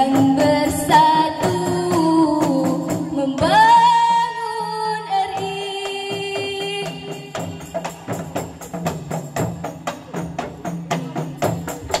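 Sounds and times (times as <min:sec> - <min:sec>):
hand frame drums playing: 0:00.0 - 0:12.0.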